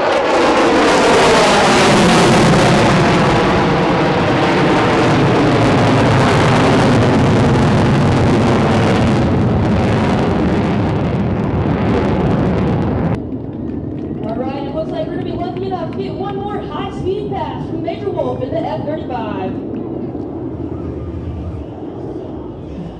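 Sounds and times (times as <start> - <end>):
jet engine roar: 0.0 - 22.9.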